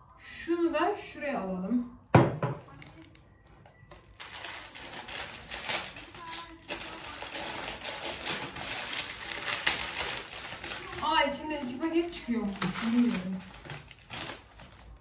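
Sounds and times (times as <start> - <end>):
plastic packaging crinkling: 2.7 - 15.0.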